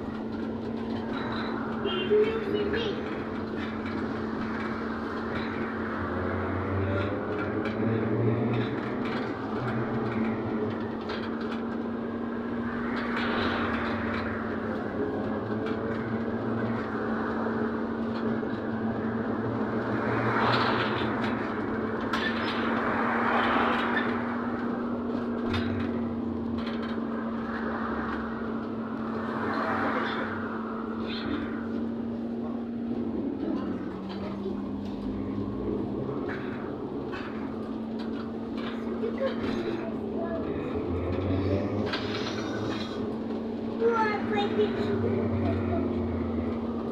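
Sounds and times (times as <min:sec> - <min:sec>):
constant hum: 0:00.0 - 0:46.9
trolleybus running and road noise: 0:00.0 - 0:46.9.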